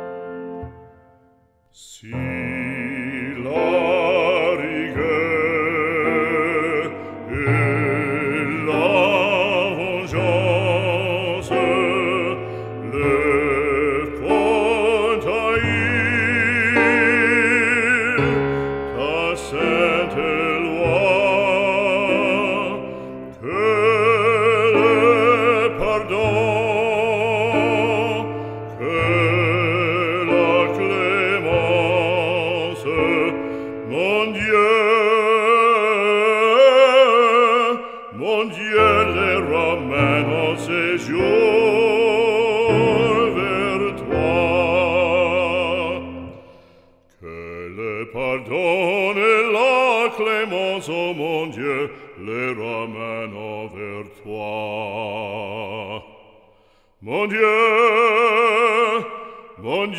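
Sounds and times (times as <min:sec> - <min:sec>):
operatic singing: 0:00.0 - 0:59.9.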